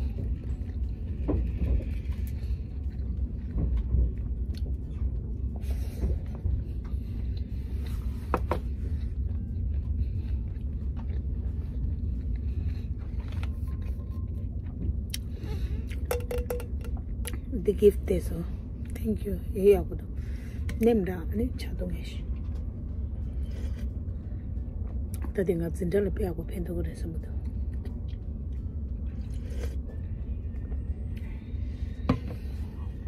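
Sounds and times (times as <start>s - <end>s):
train low rumble inside cabin: 0.0s - 33.0s.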